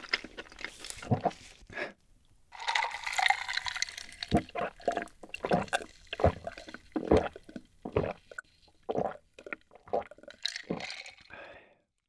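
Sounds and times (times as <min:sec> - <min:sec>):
person gulping a drink: 0:00.0 - 0:01.9, 0:02.6 - 0:11.6.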